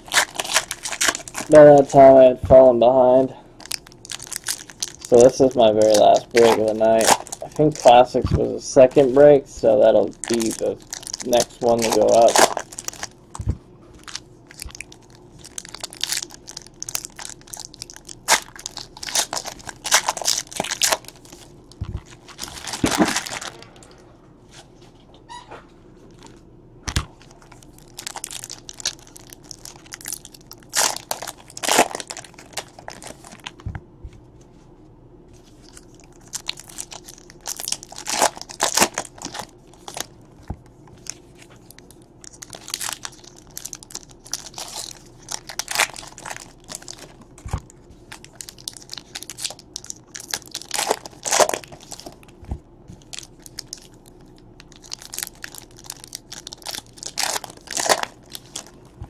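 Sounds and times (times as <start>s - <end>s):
foil wrappers crinkling and tearing: 0.0s - 2.2s, 3.1s - 13.2s, 14.0s - 23.7s, 27.2s - 33.6s, 35.4s - 40.2s, 40.9s - 52.4s, 53.0s - 59.0s.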